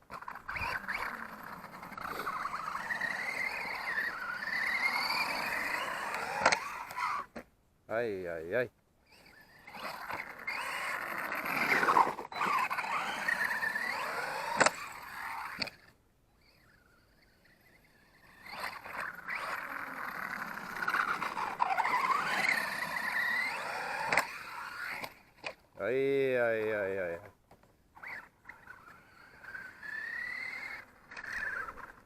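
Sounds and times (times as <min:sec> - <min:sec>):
toy truck electric motor whining: 0:00.0 - 0:07.4, 0:09.0 - 0:25.6, 0:27.9 - 0:32.0.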